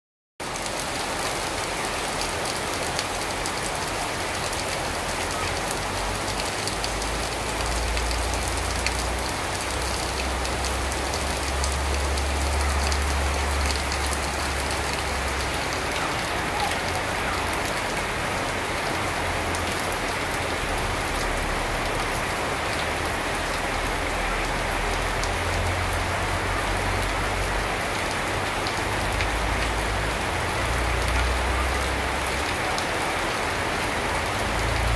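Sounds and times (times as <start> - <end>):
rain on foliage and paving: 0.4 - 34.9.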